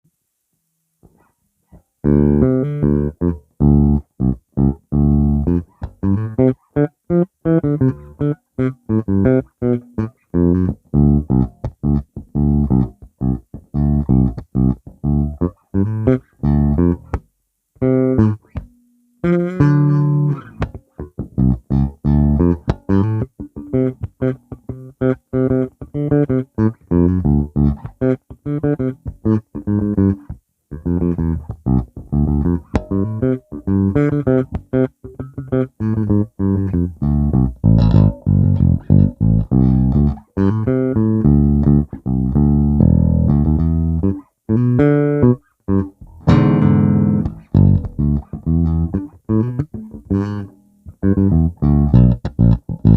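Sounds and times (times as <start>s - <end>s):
electric bass plucked notes: 2.0s - 52.9s.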